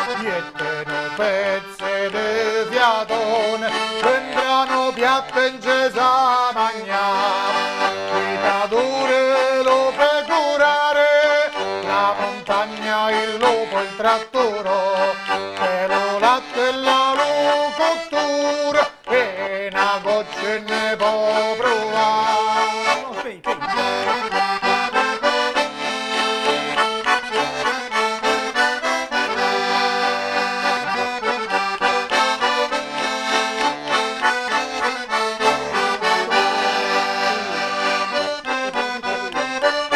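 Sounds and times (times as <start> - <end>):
button accordion folk tune: 0.0 - 39.9.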